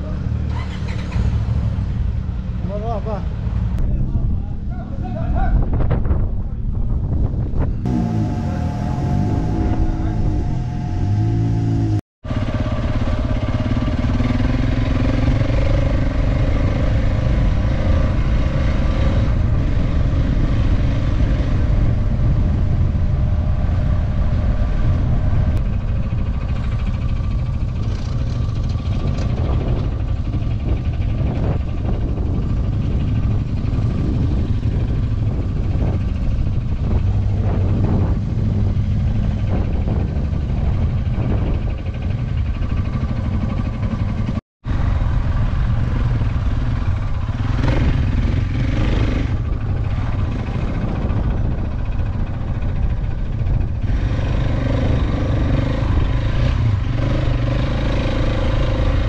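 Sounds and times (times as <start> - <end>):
motorcycle engine running: 7.3 - 59.0.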